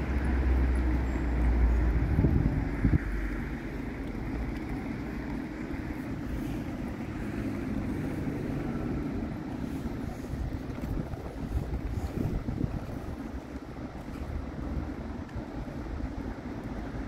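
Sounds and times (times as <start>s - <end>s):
tram rumbling on rails: 0.0s - 17.0s.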